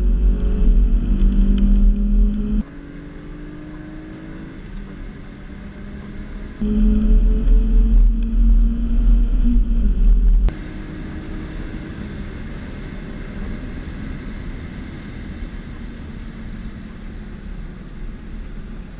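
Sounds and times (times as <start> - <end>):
car engine at high revs: 0.0 - 18.9
car engine running: 0.0 - 18.9
wind and tyre noise: 0.0 - 18.9.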